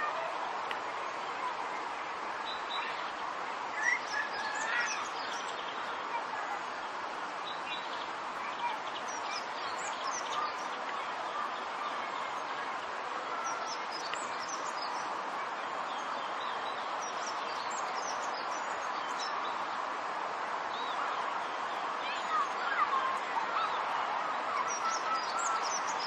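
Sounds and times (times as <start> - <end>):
small birds chirping: 2.4 - 26.0.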